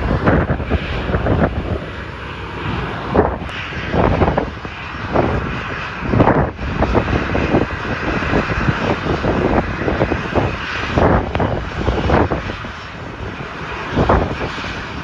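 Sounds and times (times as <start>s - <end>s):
aircraft engines running: 0.0s - 15.0s
wind buffeting microphone: 0.0s - 15.0s.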